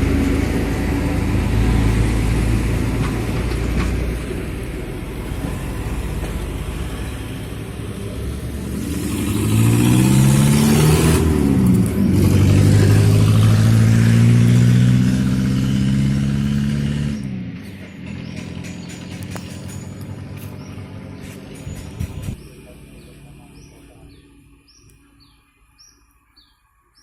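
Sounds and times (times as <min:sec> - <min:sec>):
truck engine revving: 0:00.0 - 0:24.9.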